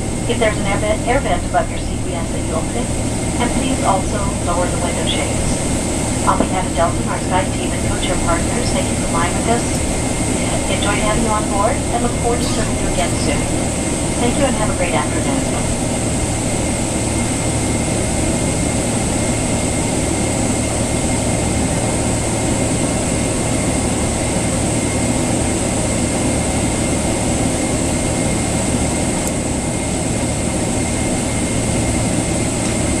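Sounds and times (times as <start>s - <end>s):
faint high whine: 0.0s - 28.7s
airplane cabin rumble: 0.0s - 33.0s.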